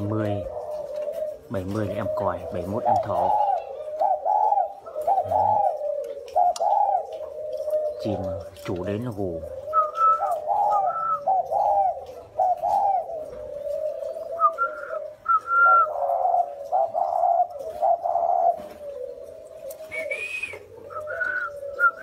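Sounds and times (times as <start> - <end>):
doves cooing: 0.0 - 22.0.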